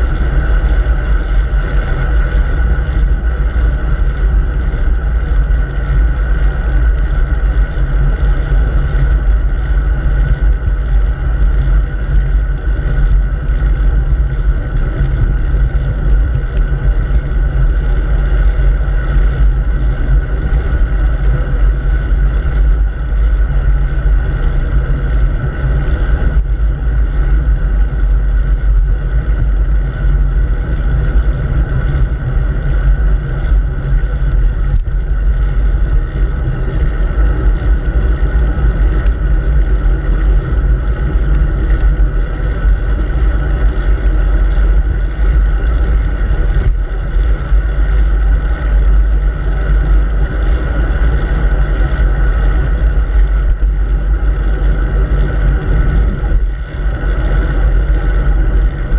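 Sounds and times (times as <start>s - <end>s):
wind rumbling on microphone: 0.0s - 58.9s.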